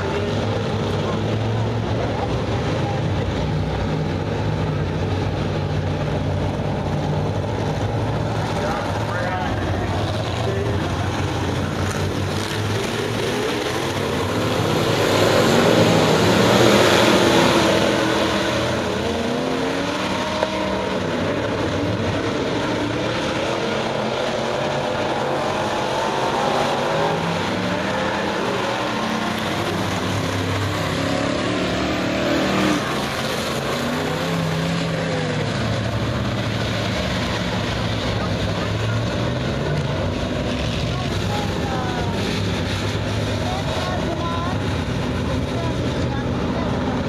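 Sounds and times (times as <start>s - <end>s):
race car engines: 0.0s - 47.0s.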